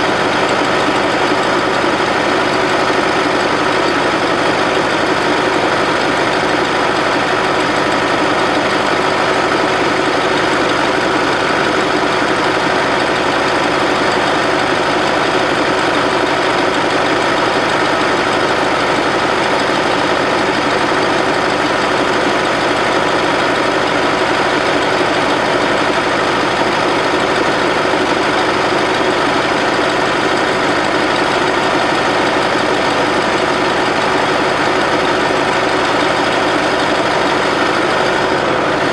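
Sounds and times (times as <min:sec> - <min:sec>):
loader engine running steadily: 0:00.0 - 0:38.9.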